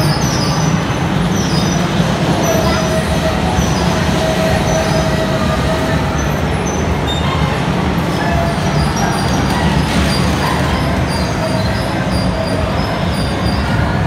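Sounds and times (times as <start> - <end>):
bumper cars running: 0.0 - 14.0.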